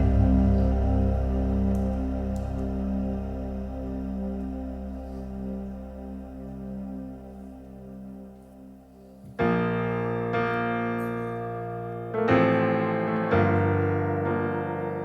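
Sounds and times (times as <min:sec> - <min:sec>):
piano chords: 0:00.0 - 0:15.0
soft synth pad: 0:00.0 - 0:15.0.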